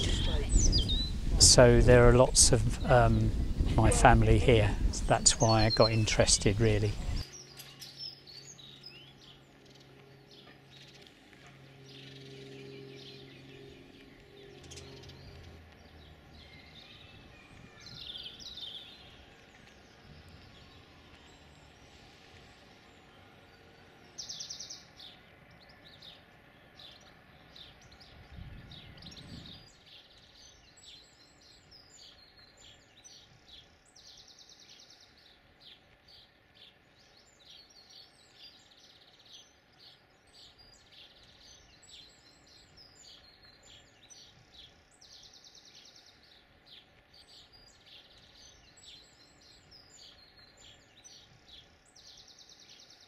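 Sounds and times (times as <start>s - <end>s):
songbirds chirping and singing: 0.0s - 53.0s.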